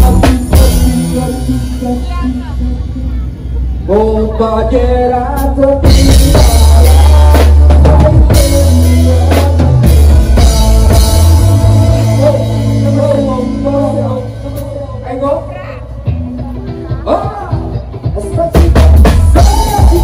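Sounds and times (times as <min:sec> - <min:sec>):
man singing into a microphone: 0:00.0 - 0:16.2, 0:16.9 - 0:20.0
live band playing: 0:00.0 - 0:20.0.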